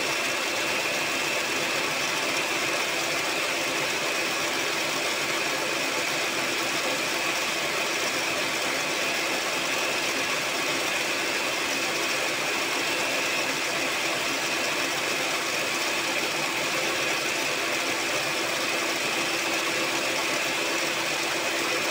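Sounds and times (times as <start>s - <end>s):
electric hand mixer running: 0.0s - 21.9s.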